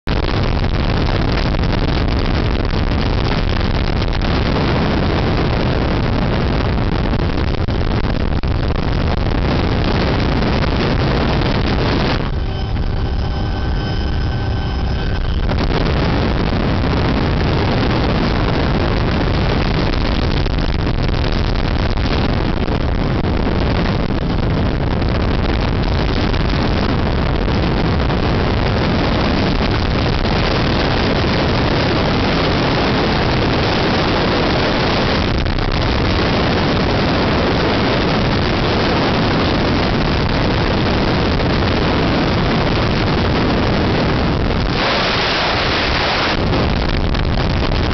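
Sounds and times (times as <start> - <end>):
wind rush: 0.1 - 47.9.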